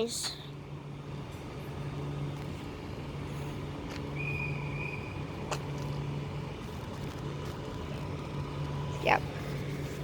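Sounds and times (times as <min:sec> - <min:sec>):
train passing with low hum: 0:00.0 - 0:10.0.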